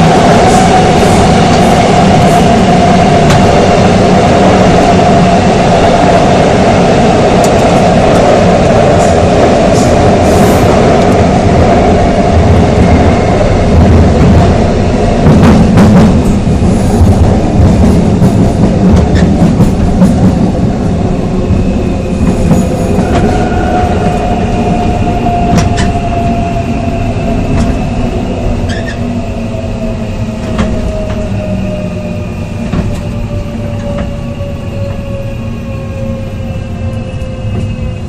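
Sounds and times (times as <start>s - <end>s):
train inverter whine: 0.0s - 38.0s
train wheels rumbling on rail: 0.0s - 38.0s.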